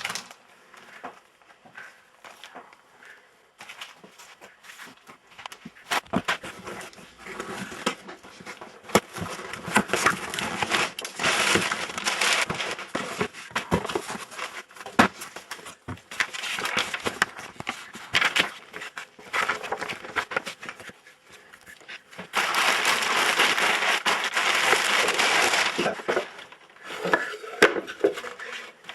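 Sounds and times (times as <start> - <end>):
packaging rustling and crinkling: 0.0 - 1.2, 3.6 - 28.9.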